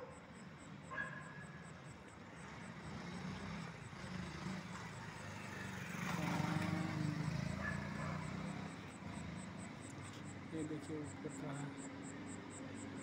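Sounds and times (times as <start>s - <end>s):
street traffic: 0.0s - 13.0s
motorbike engine hum: 0.9s - 13.0s.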